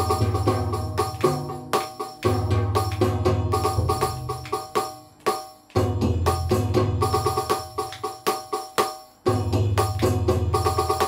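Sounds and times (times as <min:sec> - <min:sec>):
electronic hand drum strikes: 0:00.0 - 0:11.0.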